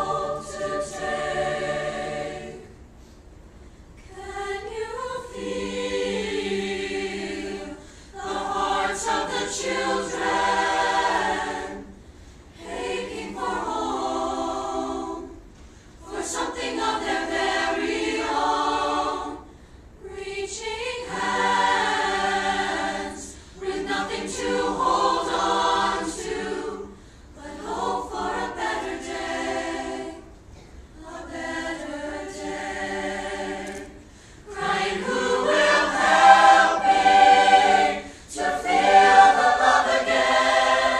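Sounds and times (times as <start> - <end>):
choir singing a cappella: 0.0 - 3.0, 4.0 - 40.9.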